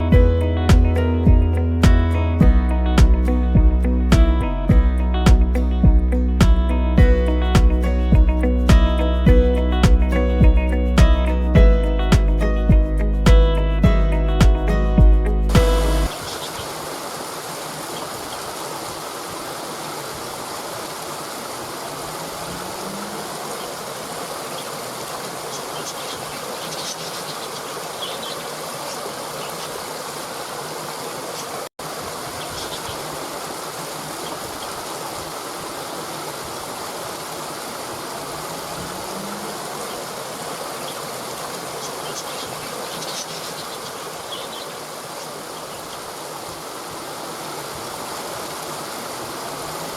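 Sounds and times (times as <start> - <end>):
waterfall rushing: 5.1 - 49.9.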